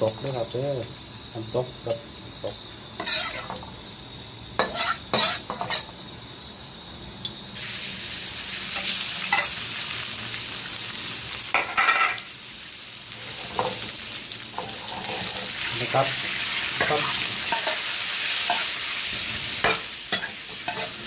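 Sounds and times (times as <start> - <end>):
beef sizzling in a pan: 0.0 - 21.0.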